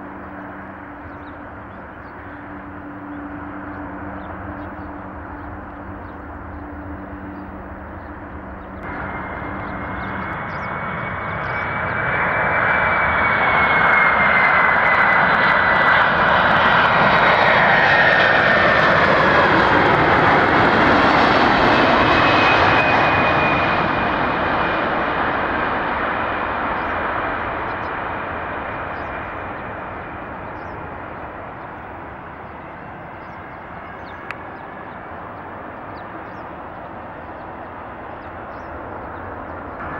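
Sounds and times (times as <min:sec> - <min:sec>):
high jet engine whine: 0:00.0 - 0:39.9
jet airliner passing: 0:00.0 - 0:39.9.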